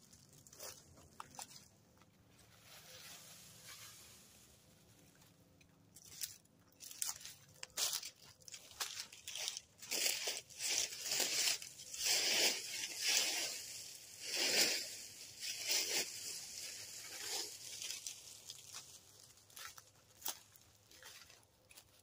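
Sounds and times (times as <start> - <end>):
rustling and crinkling swishes: 0.0 - 22.0.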